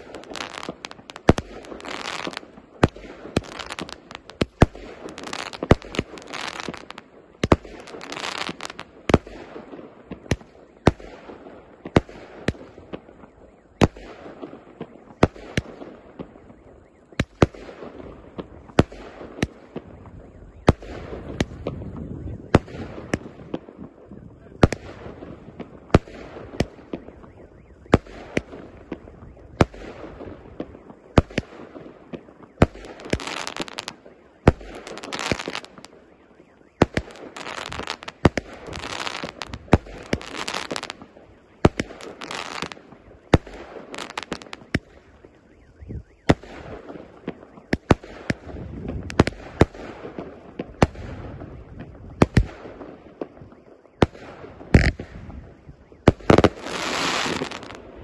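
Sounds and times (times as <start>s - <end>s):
firework bangs: 0.0s - 58.0s
firework stars hissing and crackling: 0.0s - 58.0s.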